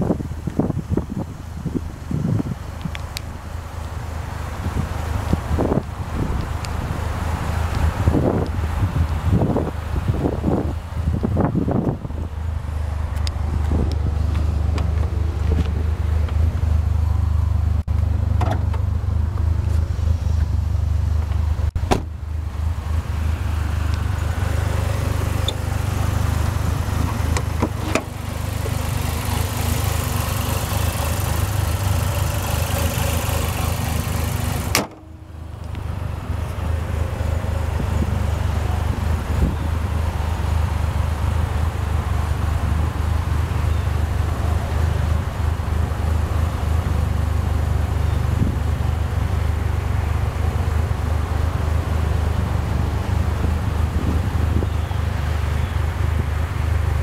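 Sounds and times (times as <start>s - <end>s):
car engine idling: 0.0s - 57.0s
wind rumbling on microphone: 0.0s - 57.0s.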